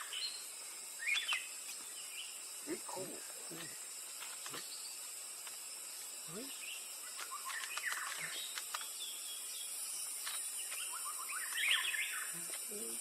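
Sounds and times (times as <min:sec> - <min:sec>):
birds chirping: 0:00.0 - 0:03.9, 0:06.1 - 0:13.0
high background hiss: 0:00.0 - 0:13.0.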